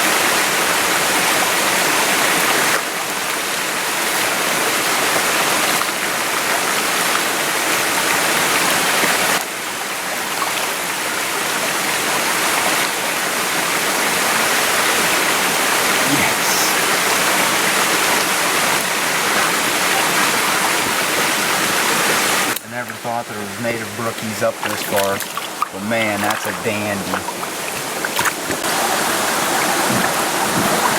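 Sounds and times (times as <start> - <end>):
mountain stream rushing: 0.0 - 30.9.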